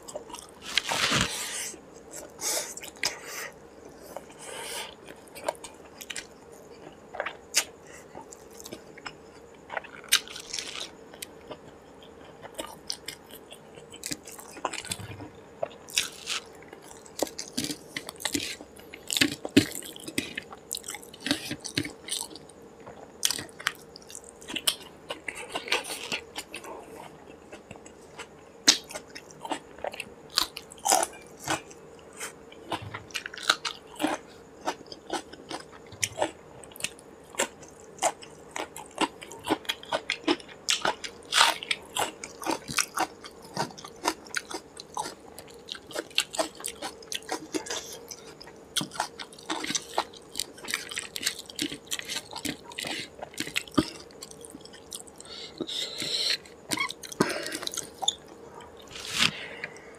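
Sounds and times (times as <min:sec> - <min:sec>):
crunchy bite of chilli: 0:06.9 - 0:59.9.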